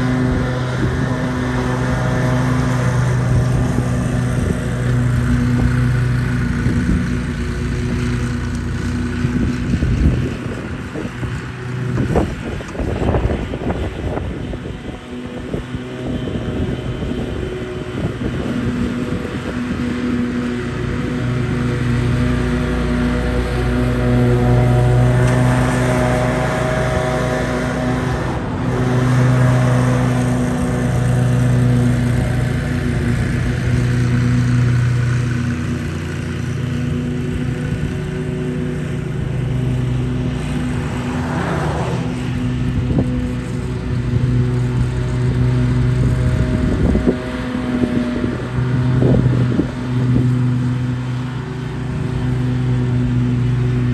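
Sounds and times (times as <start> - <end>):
blades cutting grass: 0.0 - 53.9
riding mower engine: 0.0 - 53.9.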